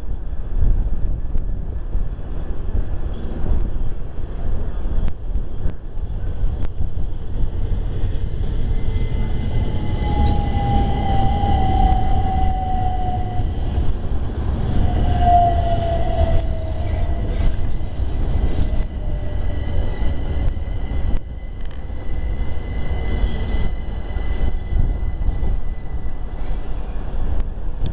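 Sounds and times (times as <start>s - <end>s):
train rumbling: 0.0s - 27.9s
falling whine: 5.0s - 27.9s.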